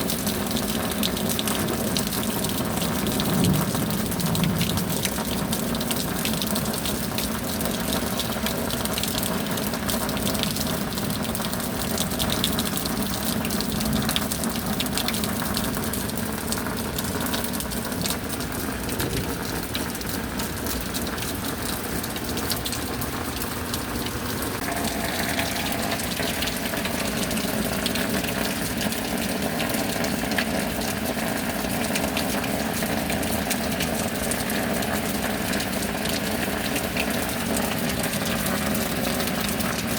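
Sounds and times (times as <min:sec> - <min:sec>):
rain with water gushing: 0:00.0 - 0:39.9.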